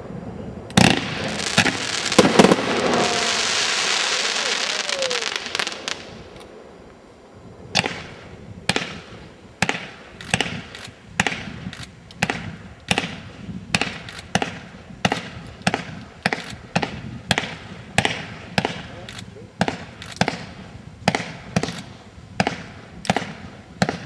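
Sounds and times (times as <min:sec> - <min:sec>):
fireworks bangs: 0:00.8 - 0:06.8, 0:07.7 - 0:24.0.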